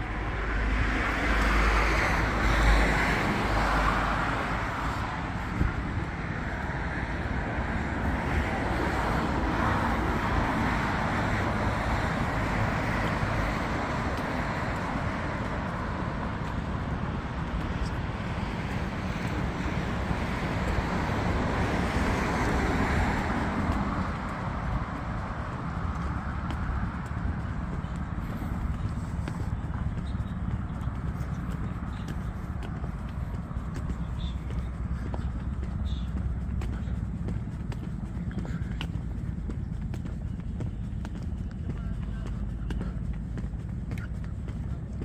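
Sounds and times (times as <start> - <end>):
distant road traffic: 0.0 - 45.0
vehicle passing: 0.0 - 45.0.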